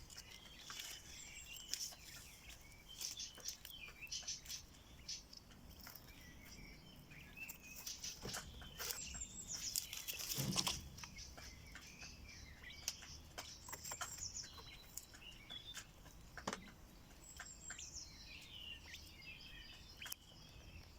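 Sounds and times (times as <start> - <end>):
quails chirping and trilling: 0.0 - 20.9.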